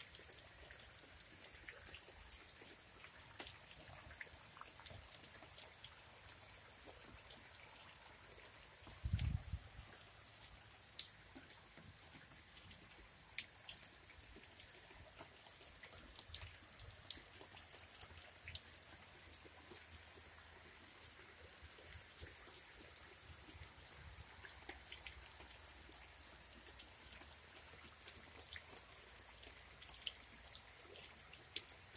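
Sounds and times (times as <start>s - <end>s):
light rain falling: 0.0s - 31.9s
raindrops ticking: 0.0s - 31.9s.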